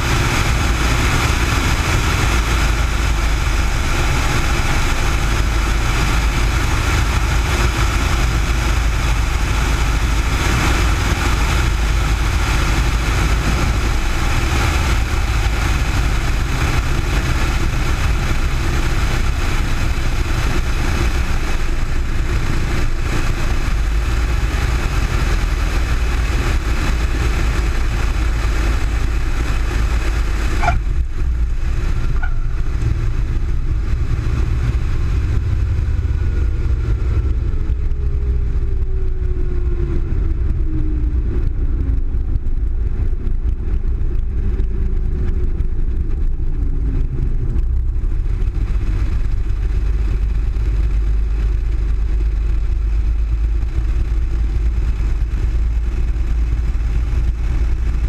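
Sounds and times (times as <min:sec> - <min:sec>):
airplane engine and propeller: 0:00.0 - 0:58.0
wind rushing noise: 0:00.0 - 0:58.0.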